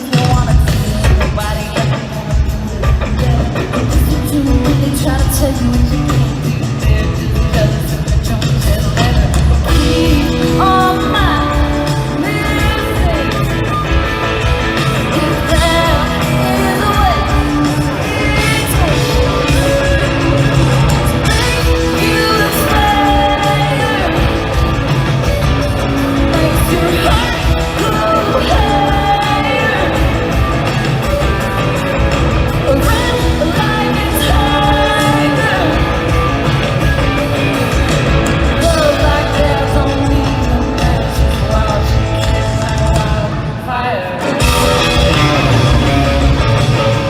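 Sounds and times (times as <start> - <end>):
drum and bass beat: 0.0 - 43.6, 44.2 - 47.0
country-rock band playing: 0.0 - 47.0
electric guitar: 0.0 - 47.0
woman singing: 0.0 - 47.0.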